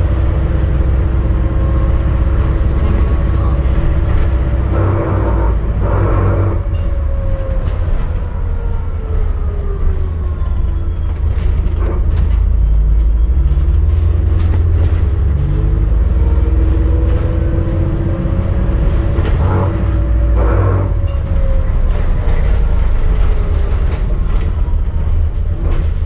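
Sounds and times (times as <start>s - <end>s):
bus body rattles and knocks: 0.0s - 26.0s
bus drivetrain rumble: 0.0s - 26.0s.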